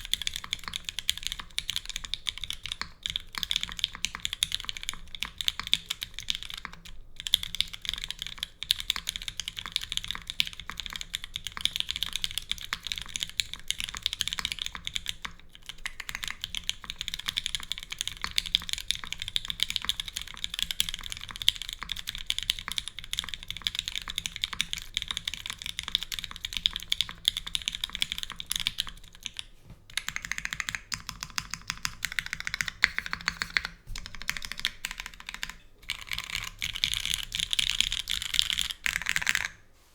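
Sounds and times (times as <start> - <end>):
fast typing on mechanical keyboard: 0.0 - 39.6.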